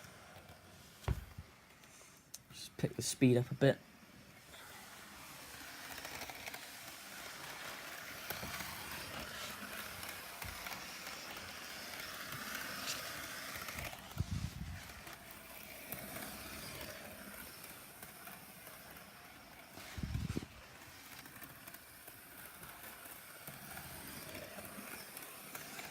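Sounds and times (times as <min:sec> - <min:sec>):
model train motor whirring: 0:00.0 - 0:25.9
wheels rolling on rails: 0:00.0 - 0:25.9.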